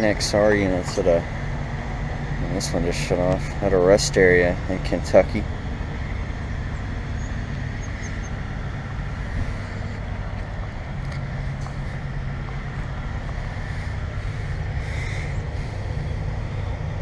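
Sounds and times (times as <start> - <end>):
compressor low hum: 0.0 - 17.0
condenser fan rushing: 0.0 - 17.0.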